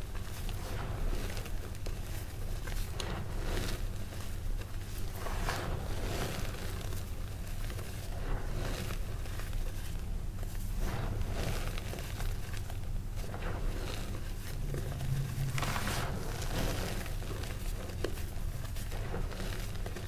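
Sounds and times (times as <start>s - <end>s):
chalk powder crunching and rustling: 0.0s - 20.0s
steady low rumble: 0.0s - 20.0s.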